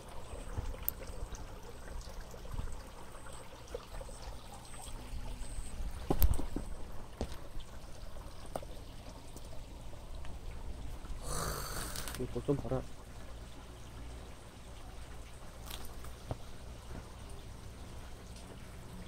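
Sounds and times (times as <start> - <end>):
water running and trickling: 0.0 - 19.0.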